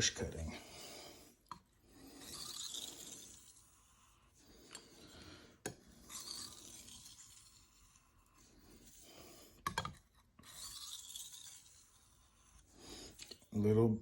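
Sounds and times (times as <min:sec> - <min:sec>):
knife scraping on whetstone: 0:02.1 - 0:13.5.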